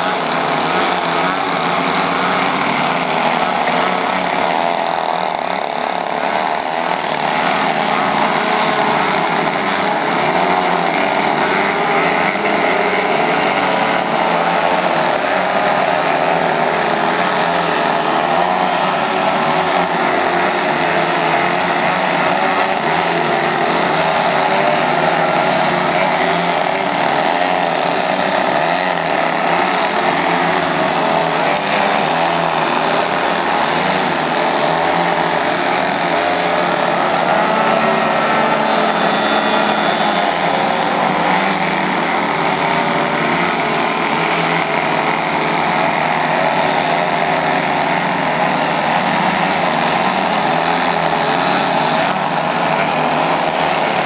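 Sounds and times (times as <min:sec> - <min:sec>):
model plane engines droning: 0:00.0 - 0:54.0.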